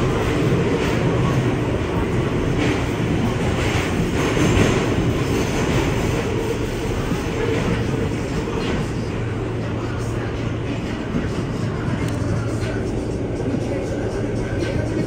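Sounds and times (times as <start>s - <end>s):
subway train rumbling in tunnel: 0.0s - 15.0s.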